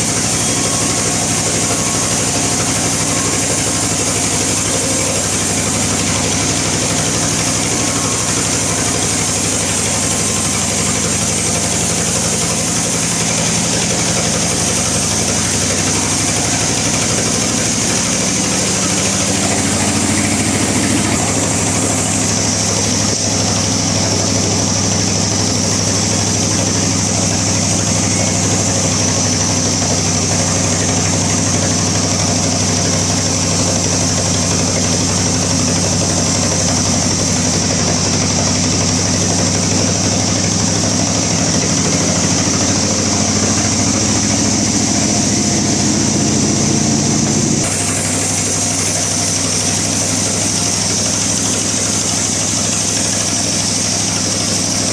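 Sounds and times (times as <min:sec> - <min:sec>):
bandsaw cutting log: 0:00.0 - 0:54.9.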